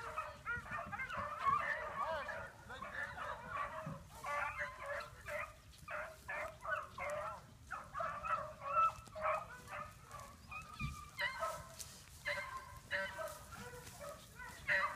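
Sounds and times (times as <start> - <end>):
dogs baying: 0.0 - 14.9.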